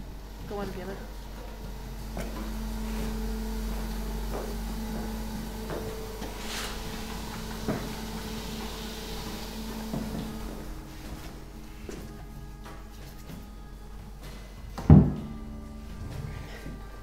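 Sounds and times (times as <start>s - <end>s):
steady low hum: 0.0s - 17.0s
rustle of people moving: 1.2s - 17.0s.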